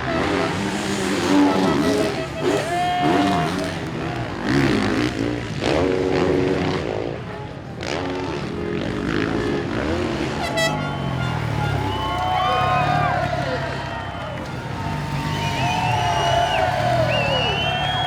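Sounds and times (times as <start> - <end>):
motocross bikes revving past: 0.0 - 18.0.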